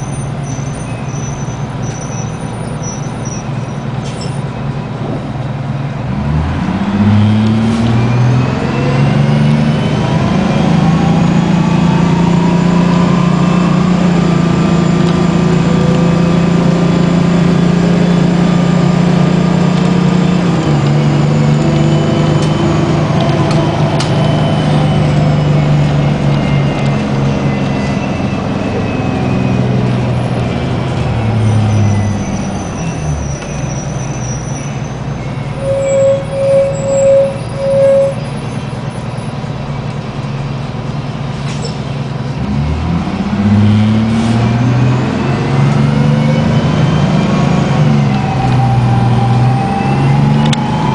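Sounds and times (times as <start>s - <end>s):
bus diesel engine accelerating: 0.0s - 50.9s
drivetrain whine: 4.5s - 50.9s.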